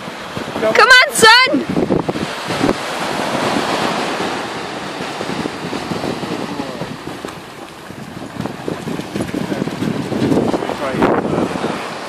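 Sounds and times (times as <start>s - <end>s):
small waves breaking: 0.0s - 12.0s
wind buffeting microphone: 0.0s - 12.0s.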